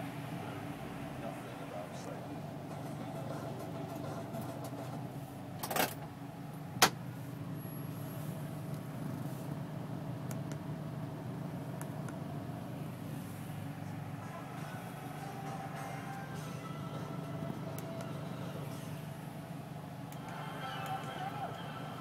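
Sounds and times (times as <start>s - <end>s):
car engine and cabin hum: 0.0s - 22.0s.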